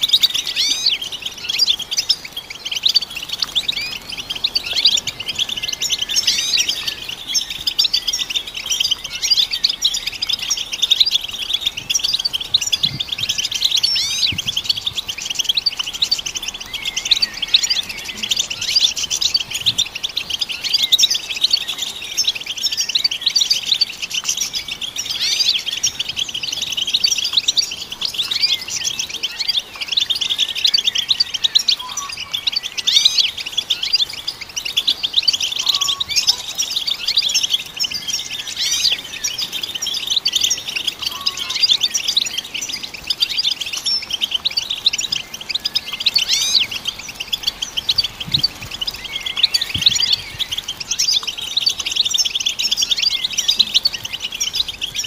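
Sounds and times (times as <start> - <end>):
finch singing: 0.0 - 55.0.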